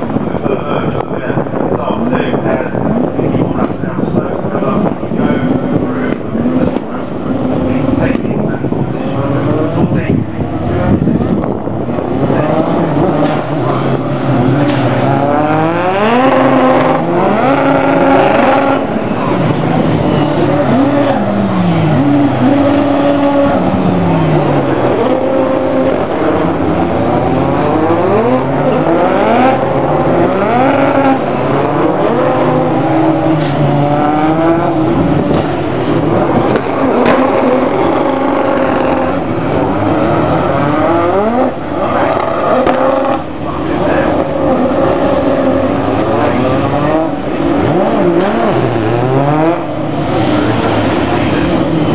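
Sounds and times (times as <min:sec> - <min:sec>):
racing car engines revving past: 0:00.0 - 0:51.9.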